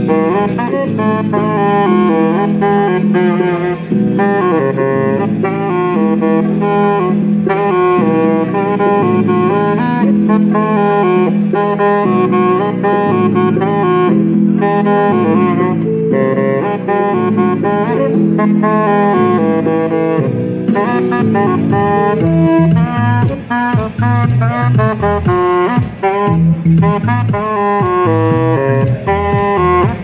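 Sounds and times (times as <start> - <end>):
alto saxophone melody: 0.0 - 30.0
backing track bass notes: 0.0 - 30.0.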